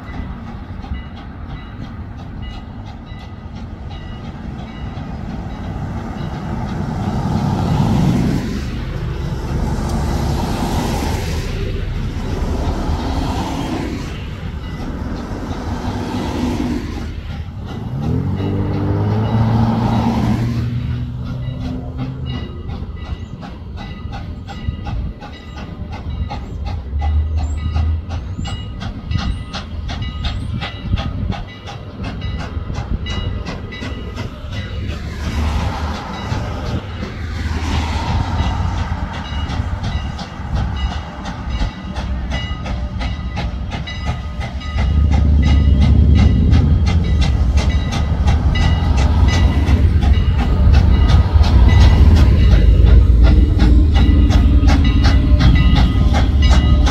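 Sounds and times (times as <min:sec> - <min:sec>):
steam locomotive running: 0:00.0 - 0:56.9.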